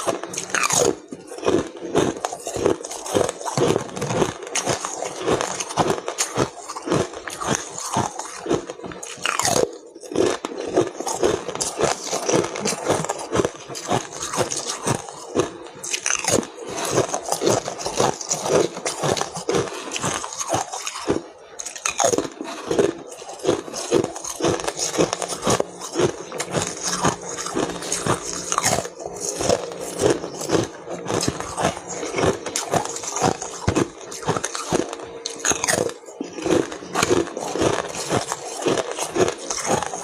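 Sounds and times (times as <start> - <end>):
ice crunching while chewed: 0.0 - 40.0.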